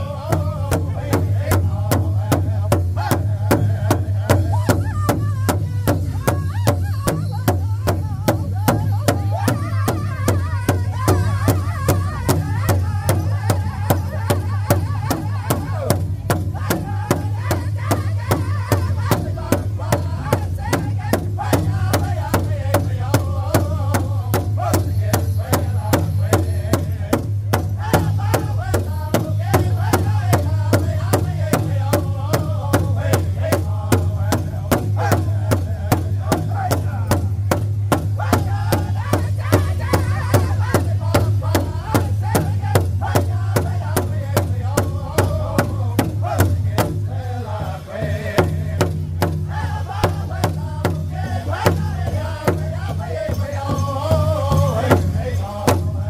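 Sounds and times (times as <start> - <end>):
group singing in chorus: 0.0 - 56.0
large bass drum steady beat: 0.0 - 56.0.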